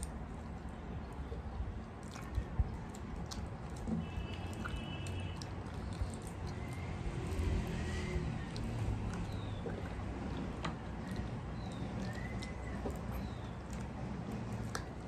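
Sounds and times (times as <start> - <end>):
chewing: 0.0 - 15.0
fingers squishing food: 0.0 - 15.0.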